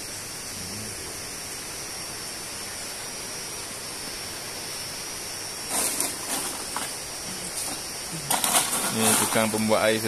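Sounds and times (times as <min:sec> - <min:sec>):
background hiss: 0:00.0 - 0:10.0
faint high whine: 0:00.0 - 0:10.0.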